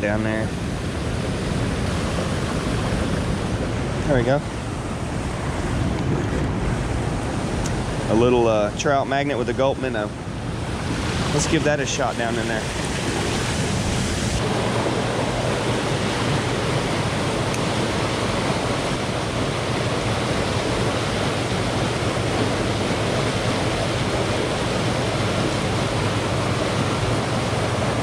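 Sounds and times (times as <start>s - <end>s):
churning water rushing: 0.0s - 28.0s.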